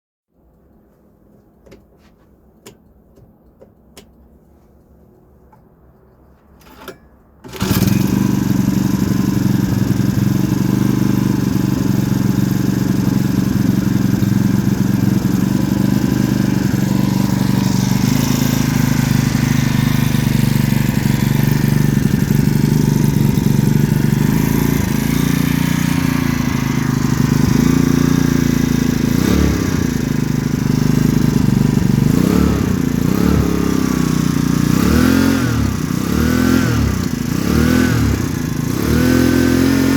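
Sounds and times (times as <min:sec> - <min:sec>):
small engine starting and revving: 0:07.5 - 0:39.9.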